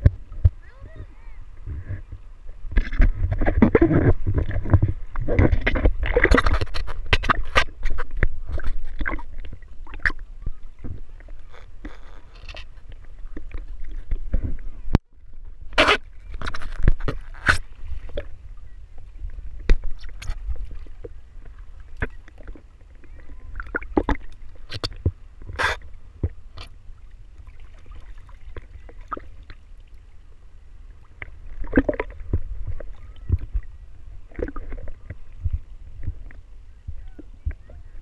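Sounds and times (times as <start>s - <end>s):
sea water sloshing and splashing: 0.0s - 38.0s.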